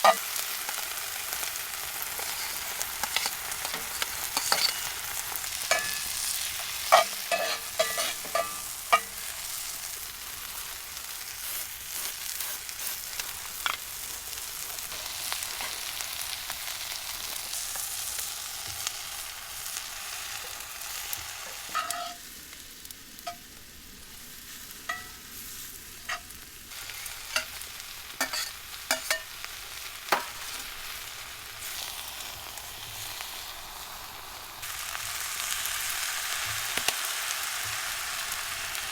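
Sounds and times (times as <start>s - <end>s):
food sizzling in a hot pan: 0.0s - 38.9s.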